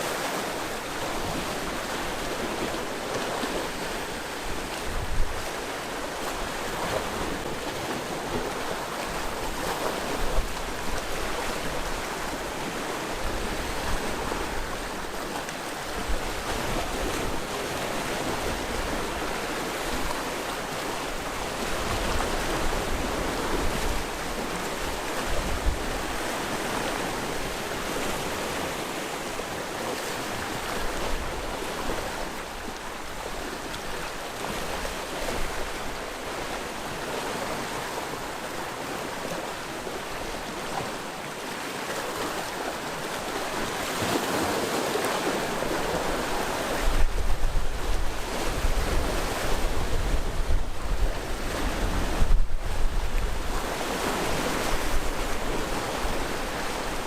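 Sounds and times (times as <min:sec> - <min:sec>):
waves washing onto shore: 0:00.0 - 0:57.0.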